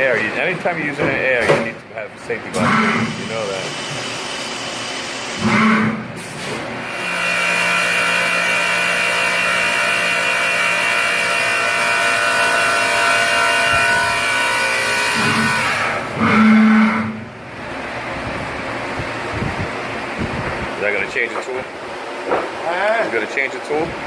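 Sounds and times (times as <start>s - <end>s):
milling machine whine: 2.6s - 22.0s.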